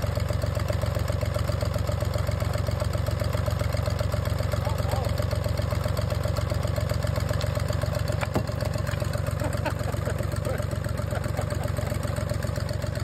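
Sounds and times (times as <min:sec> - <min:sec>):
marine diesel engine idling: 0:00.0 - 0:13.0.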